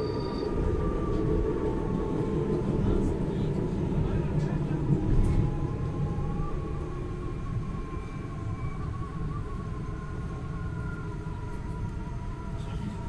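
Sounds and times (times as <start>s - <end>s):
thin wavering whine: 0.0s - 13.0s
train low rumble: 0.0s - 13.0s.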